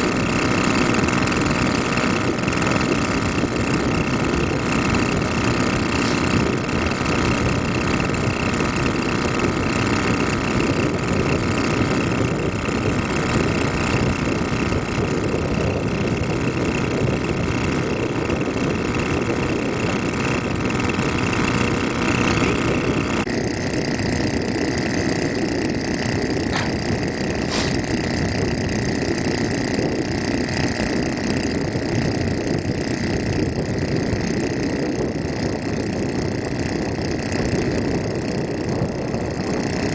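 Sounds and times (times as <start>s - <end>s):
rice transplanter engine running: 0.0s - 39.9s.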